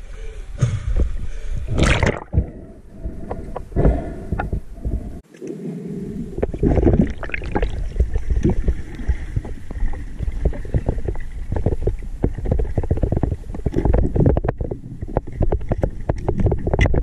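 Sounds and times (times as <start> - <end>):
muffled underwater water rumble: 0.0 - 17.0.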